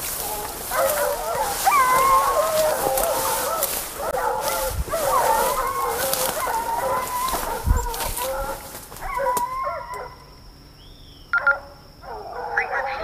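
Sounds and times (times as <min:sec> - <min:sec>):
hunting dogs baying: 0:00.0 - 0:10.3, 0:11.4 - 0:13.0.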